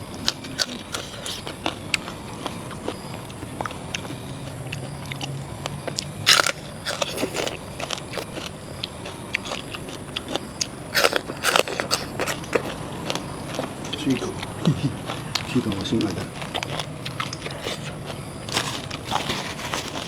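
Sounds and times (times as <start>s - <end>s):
wet biting and chewing: 0.1s - 20.0s
moist crunches: 0.2s - 20.0s.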